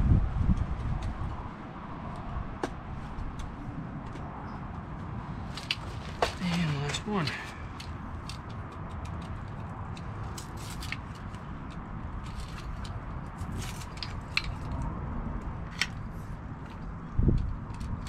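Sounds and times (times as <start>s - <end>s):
steady low rumble: 0.0s - 18.0s
cot leg pieces clicking and tapping: 2.1s - 18.0s.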